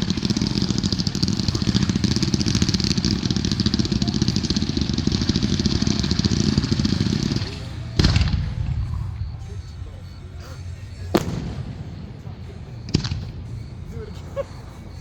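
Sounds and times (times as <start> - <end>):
loud firework bang: 0.0 - 9.8, 11.1 - 13.7
fireworks crackling: 0.0 - 15.0.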